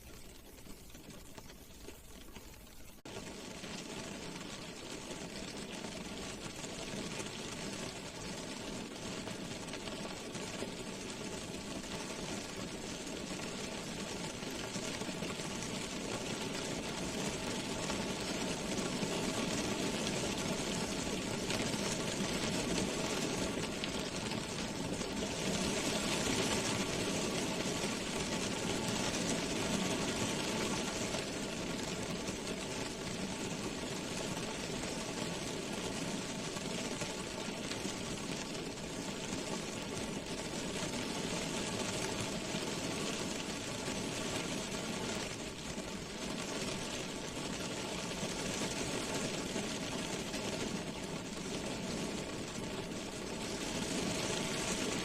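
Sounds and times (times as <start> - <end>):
faint steady hum: 0.0 - 55.0
rain drumming on car roof: 0.4 - 55.0.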